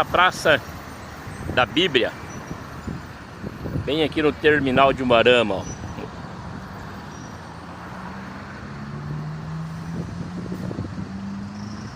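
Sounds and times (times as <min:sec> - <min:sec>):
road traffic rushing: 0:00.0 - 0:11.9
vehicle engine running nearby: 0:00.0 - 0:11.9.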